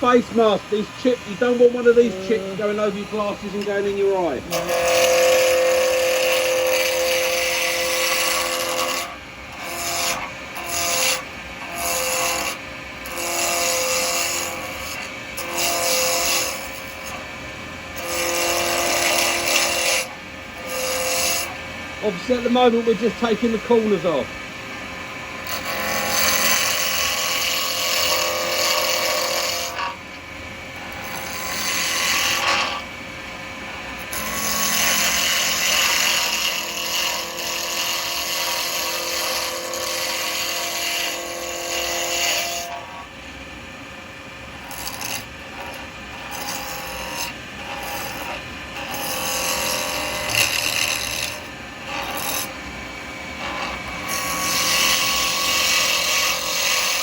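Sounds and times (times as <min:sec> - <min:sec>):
chisel scraping on a lathe: 0:00.8 - 0:11.2, 0:11.8 - 0:17.2, 0:18.0 - 0:20.1, 0:20.7 - 0:24.2, 0:25.4 - 0:30.0, 0:34.0 - 0:42.8, 0:44.7 - 0:52.5, 0:53.4 - 0:57.0.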